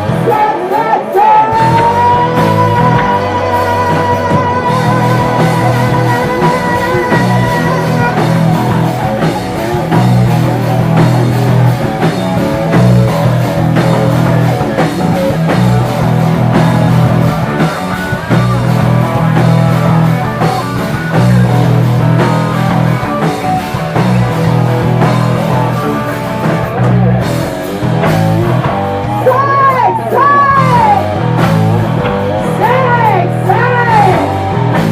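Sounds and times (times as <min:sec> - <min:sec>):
drum kit beat: 0:00.0 - 0:34.9
electric guitar: 0:00.0 - 0:34.9.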